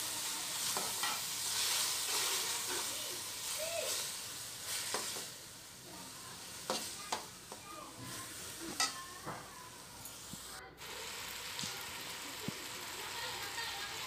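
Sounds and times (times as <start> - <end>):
vegetables sizzling in pan: 0.0 - 14.0.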